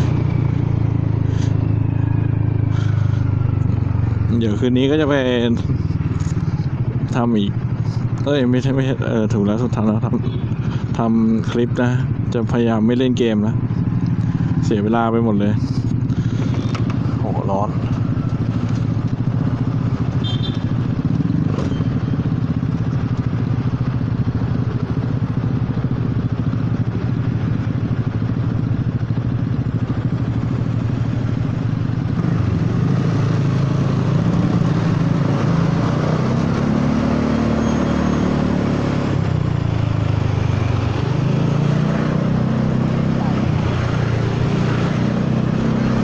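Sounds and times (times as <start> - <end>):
scooter engine running: 0.0 - 11.0, 15.6 - 46.0.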